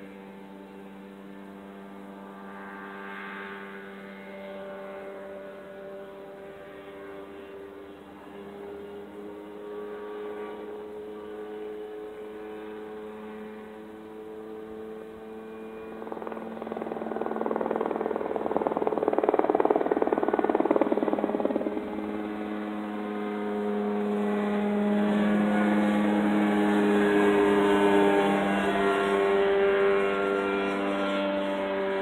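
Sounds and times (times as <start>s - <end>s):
helicopter engine drone: 0.0s - 32.0s
helicopter rotor noise: 0.0s - 32.0s.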